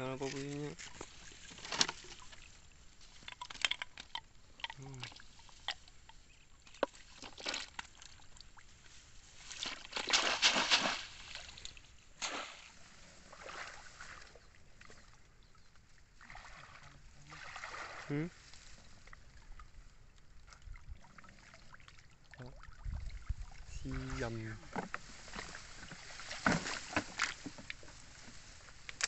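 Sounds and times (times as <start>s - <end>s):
water sloshing and splashing: 0.0s - 29.0s.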